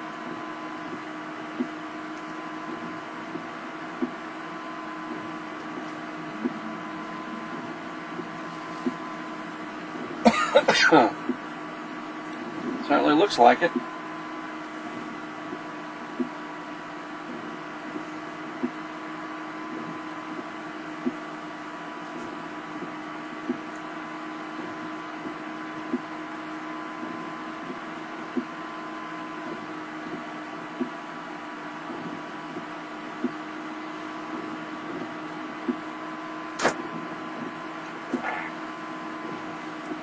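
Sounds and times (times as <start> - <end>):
car engine idling hum: 0.0 - 40.0.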